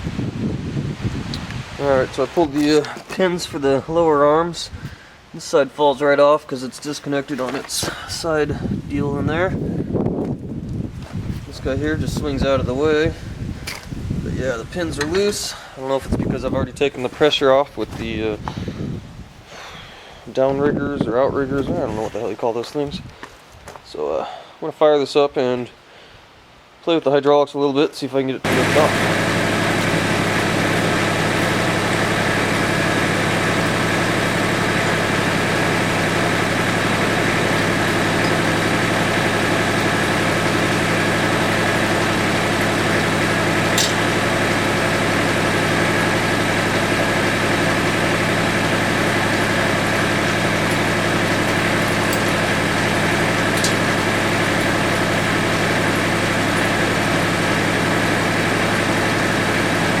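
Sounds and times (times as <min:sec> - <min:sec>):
diesel tractor engine idling: 0:01.6 - 0:22.4, 0:28.4 - 1:00.0.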